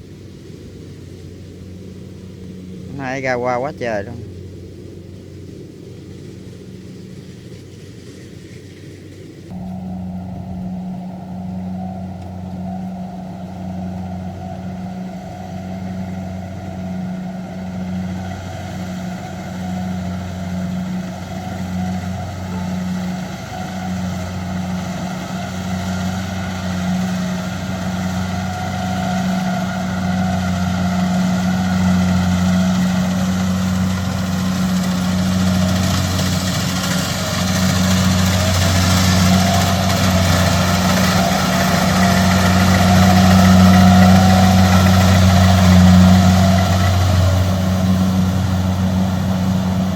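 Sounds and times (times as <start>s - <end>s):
engine humming steadily: 0.0s - 49.9s.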